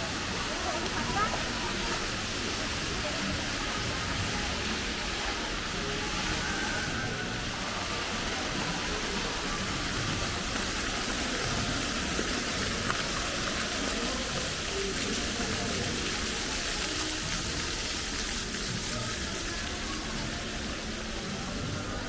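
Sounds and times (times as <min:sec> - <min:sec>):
fountain water rushing: 0:00.0 - 0:22.0.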